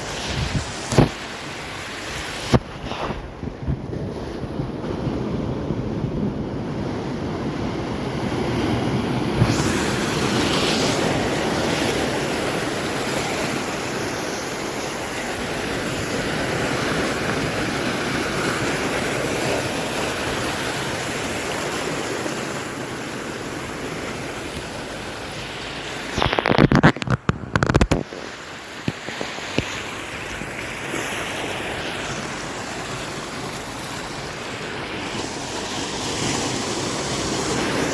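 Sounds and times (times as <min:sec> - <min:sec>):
ocean waves surging on shore: 0:00.0 - 0:37.9
wind on microphone: 0:00.0 - 0:37.9.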